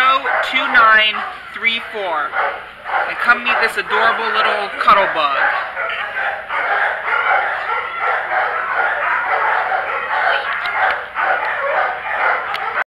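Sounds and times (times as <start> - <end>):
many dogs barking: 0.0 - 12.9.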